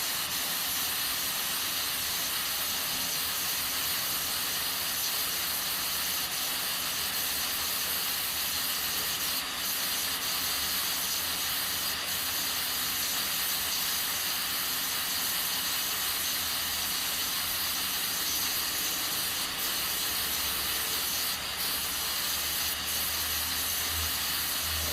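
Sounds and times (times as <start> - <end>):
pressure cooker hissing steam: 0.0 - 24.9.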